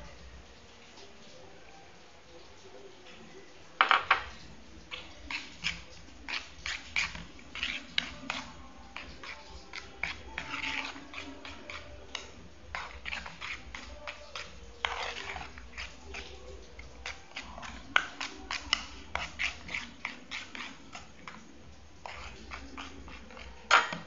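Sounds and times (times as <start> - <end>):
metal spoon scraping a pan: 3.8 - 24.0.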